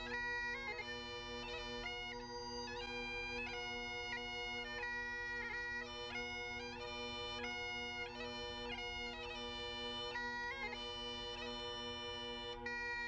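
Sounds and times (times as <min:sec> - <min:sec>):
bagpipe music: 0:00.0 - 0:13.0.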